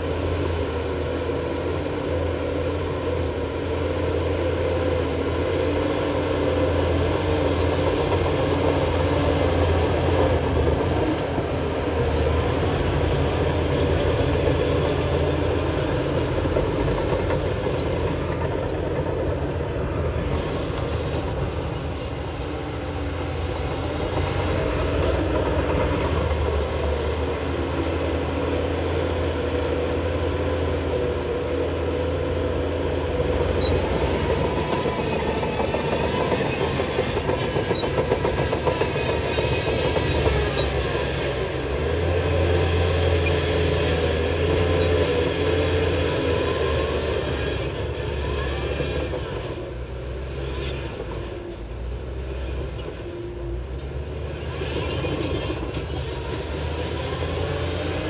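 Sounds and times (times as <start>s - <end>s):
diesel engine running: 0.0s - 58.0s
metallic clattering of tracks: 5.2s - 58.0s.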